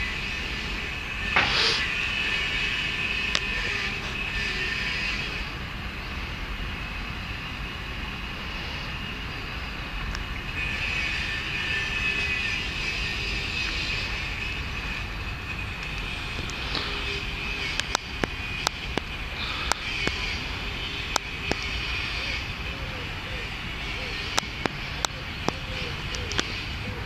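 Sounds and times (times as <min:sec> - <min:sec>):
outdoor background rumble and hiss: 0:00.0 - 0:27.0.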